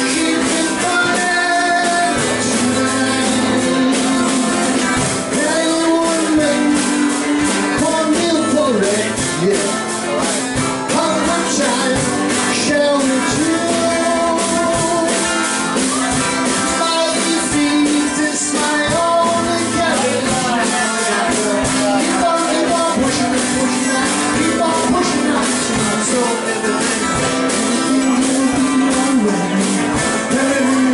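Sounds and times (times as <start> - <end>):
acoustic guitar strumming: 0.0 - 30.9
drum kit beat: 0.0 - 30.9
man singing: 0.0 - 30.9.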